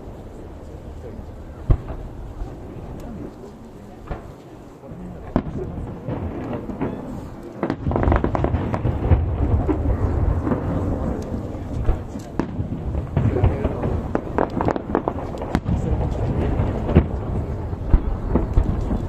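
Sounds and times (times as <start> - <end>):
fireworks bursting: 0.0 - 19.0
fireworks crackles: 0.0 - 19.0.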